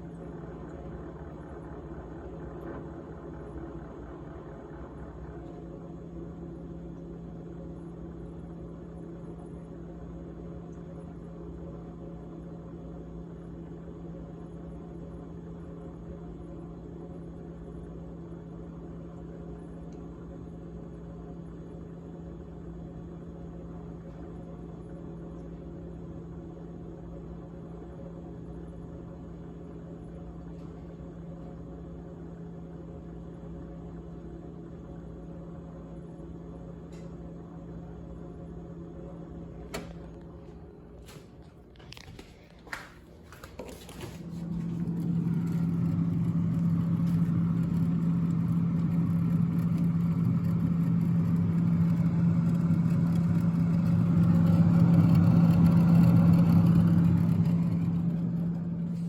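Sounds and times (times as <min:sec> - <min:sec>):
refrigerator humming: 0:00.0 - 0:59.0.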